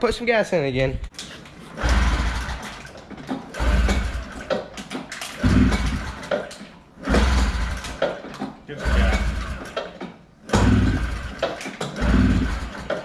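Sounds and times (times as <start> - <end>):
engine pull-start cranking: 1.1 - 13.0.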